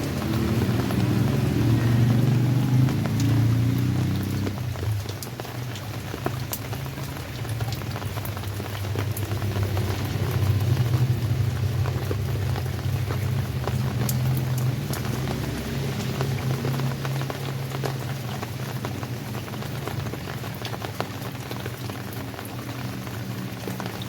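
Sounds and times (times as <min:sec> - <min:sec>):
rain falling: 0:00.0 - 0:24.0
raindrops ticking: 0:00.0 - 0:24.0.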